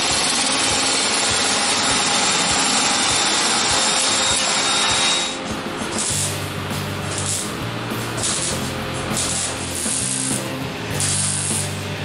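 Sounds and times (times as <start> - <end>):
electric shear cutting sheet metal: 0.0 - 12.0.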